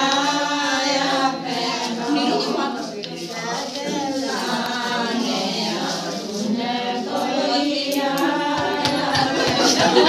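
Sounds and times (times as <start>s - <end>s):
women singing folk song: 0.0s - 10.0s.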